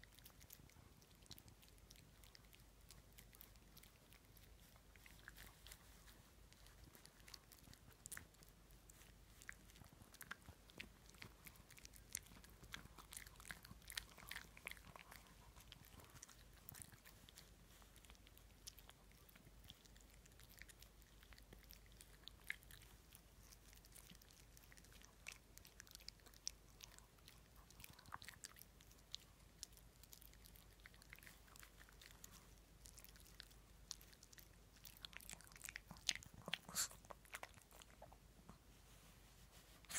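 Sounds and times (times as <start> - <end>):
dog chewing with wet clicks: 0.0 - 38.7.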